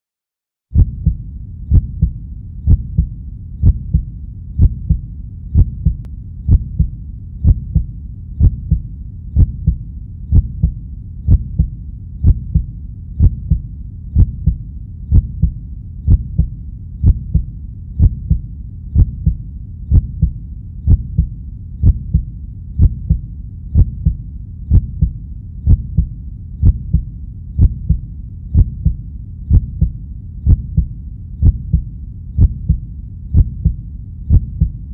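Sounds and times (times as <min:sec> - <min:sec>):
deep thumping pulse: 0:00.8 - 0:34.9.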